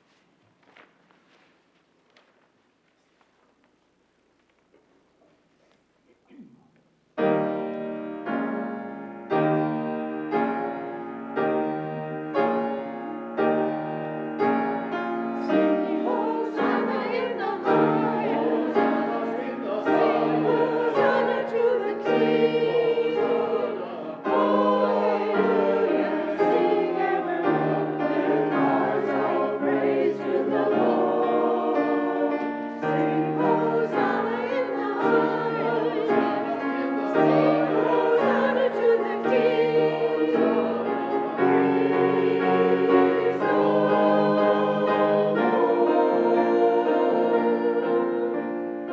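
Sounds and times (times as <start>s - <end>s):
choir singing: 7.2s - 48.9s
piano chords: 7.2s - 48.9s.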